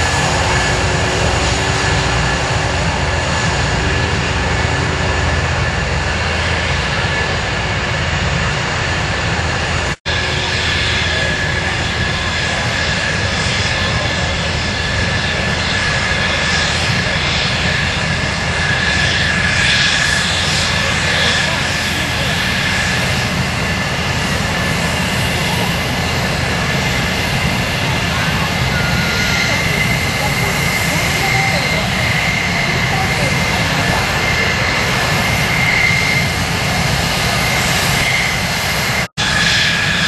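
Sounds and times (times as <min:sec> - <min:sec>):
jet engines roaring and whining: 0:00.0 - 0:40.0.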